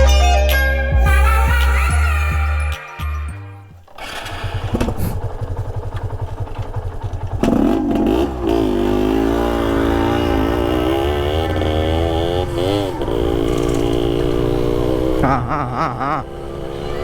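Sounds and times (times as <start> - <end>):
motorcycle engine idling and revving: 3.4 - 17.0.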